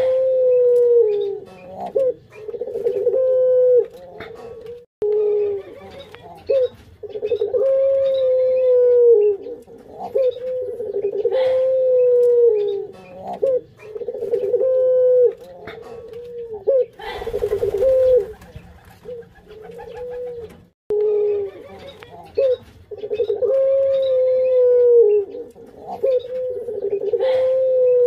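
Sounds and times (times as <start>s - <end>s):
doves cooing: 0.0s - 28.0s.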